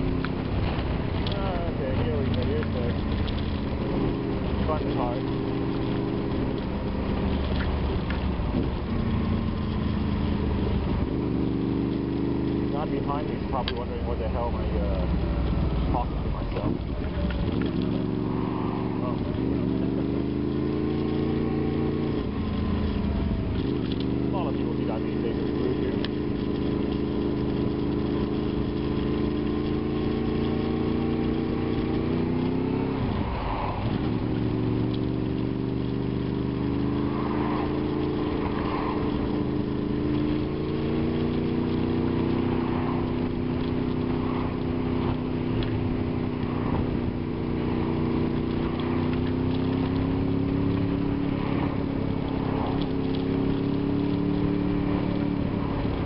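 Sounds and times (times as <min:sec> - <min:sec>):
motorcycle engine running: 0:00.0 - 0:56.0
road noise: 0:00.0 - 0:56.0.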